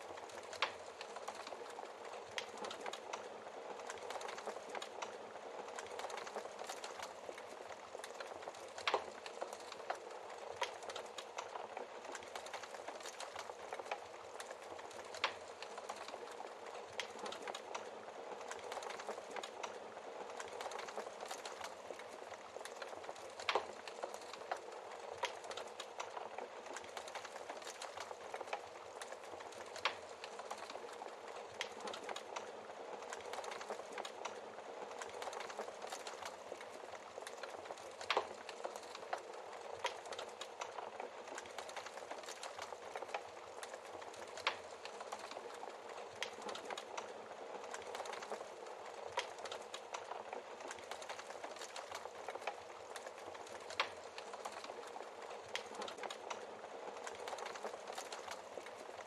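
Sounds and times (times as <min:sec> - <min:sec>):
wood fire crackling: 0:00.0 - 0:59.0
burning logs popping: 0:00.1 - 0:59.0.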